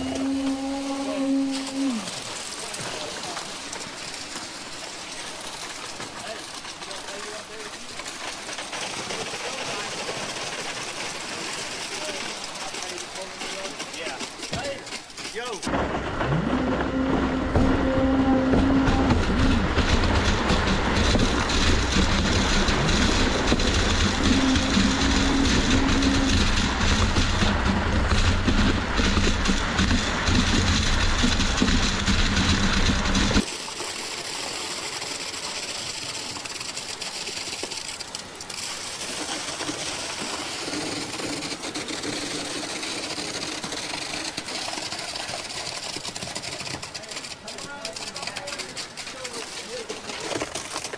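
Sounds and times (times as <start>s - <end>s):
concrete pump running: 0.0s - 50.9s.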